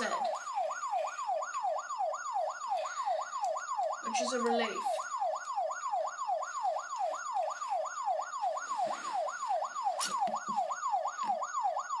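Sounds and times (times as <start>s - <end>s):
electronic siren yelping: 0.0s - 12.0s.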